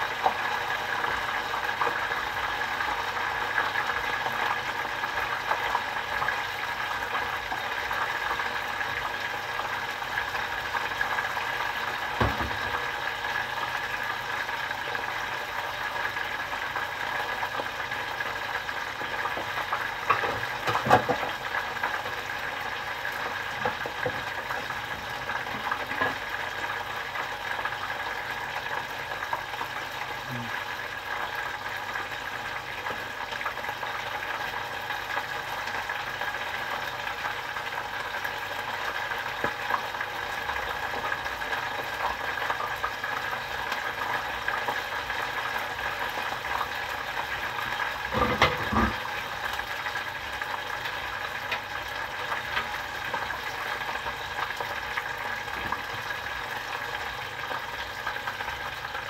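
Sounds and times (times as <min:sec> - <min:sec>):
chicken deep-frying in oil: 0:00.0 - 0:59.0.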